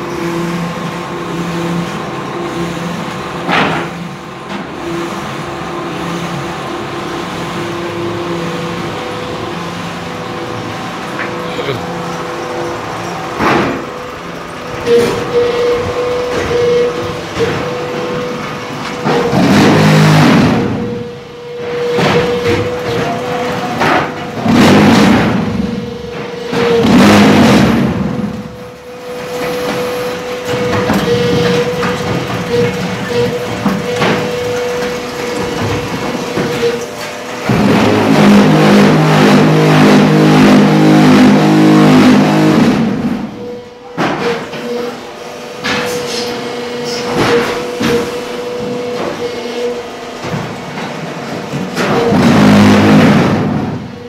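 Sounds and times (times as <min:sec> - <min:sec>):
pulsing mechanical buzz: 0:00.0 - 0:54.0.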